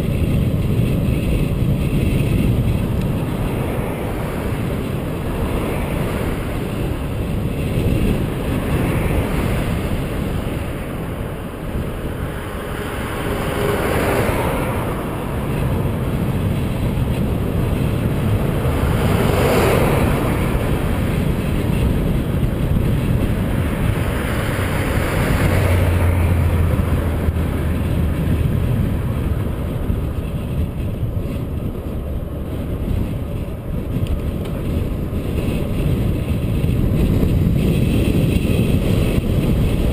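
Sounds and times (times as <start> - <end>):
car passing: 0.0 - 39.9
highway traffic noise: 0.0 - 39.9
wind rumbling on microphone: 0.0 - 39.9.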